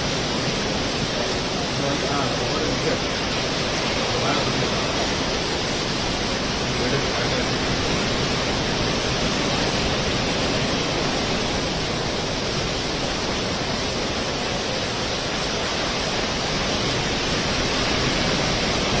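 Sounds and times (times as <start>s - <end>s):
rough sea: 0.0s - 19.0s
strong wind roaring: 0.0s - 19.0s
wind buffeting the microphone: 0.0s - 19.0s.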